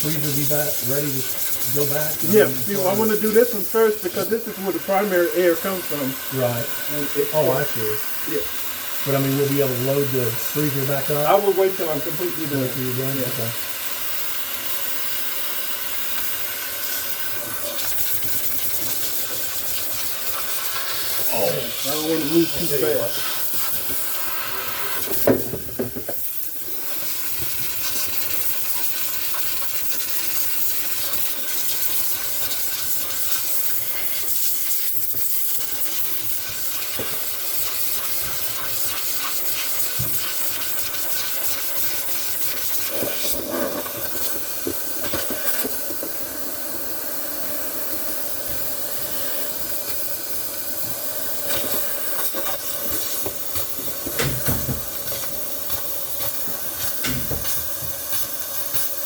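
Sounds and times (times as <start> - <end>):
steamer hissing: 0.0 - 59.0.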